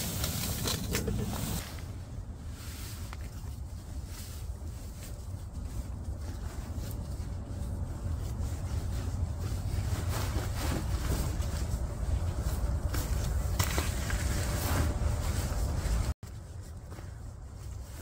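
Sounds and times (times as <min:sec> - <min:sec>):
sleeping bag rustling and crinkling: 0:00.0 - 0:18.0
steady low rumble: 0:00.0 - 0:18.0.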